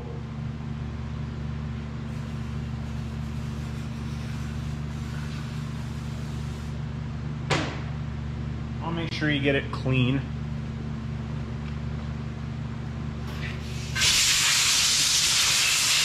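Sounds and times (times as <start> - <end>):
low machine hum: 0.0 - 14.1.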